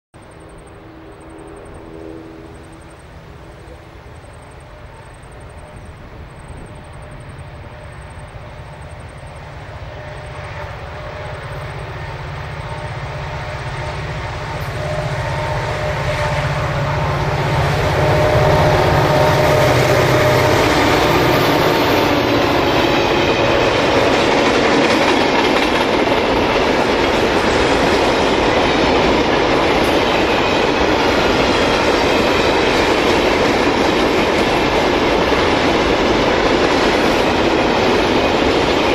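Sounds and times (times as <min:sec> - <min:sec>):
diesel locomotive engine: 0:00.2 - 0:38.9.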